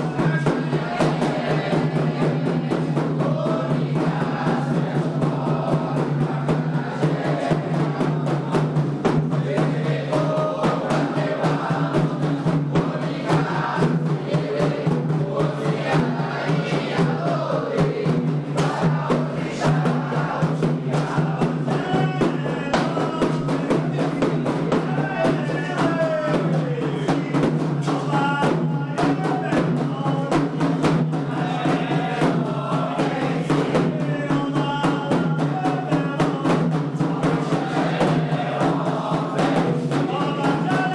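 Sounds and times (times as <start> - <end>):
group singing call-and-response: 0.0 - 40.9
hand drums: 0.0 - 40.9.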